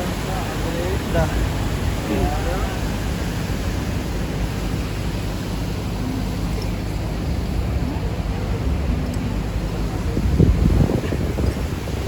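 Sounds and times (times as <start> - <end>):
boat engine rumbling: 0.0 - 12.0
water and air noise: 0.0 - 12.0.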